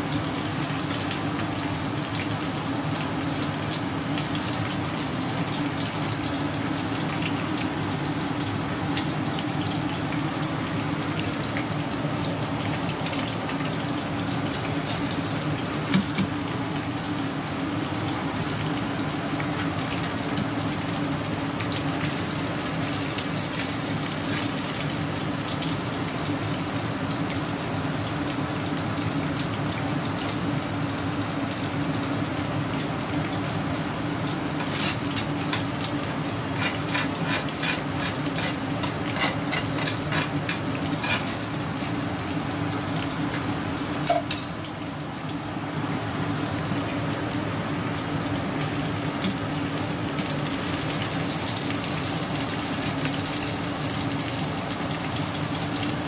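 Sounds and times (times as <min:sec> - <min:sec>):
oil sizzling around frying fish: 0:00.0 - 0:56.0.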